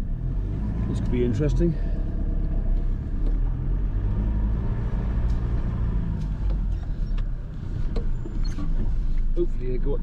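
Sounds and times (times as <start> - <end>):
van engine and road noise: 0.0 - 10.0.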